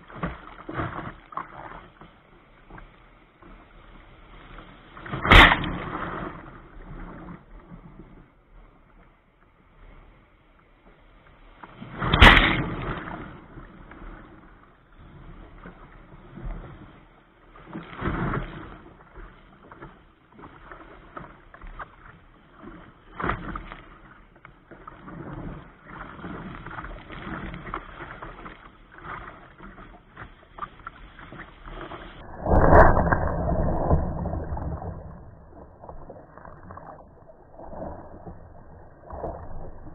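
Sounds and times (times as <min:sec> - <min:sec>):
water splashing against kayak: 0:00.0 - 0:39.9.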